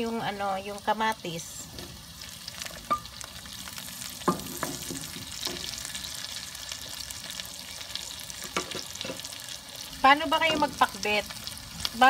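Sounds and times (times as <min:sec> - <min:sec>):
tomatoes sizzling in a wok: 0:00.0 - 0:12.0.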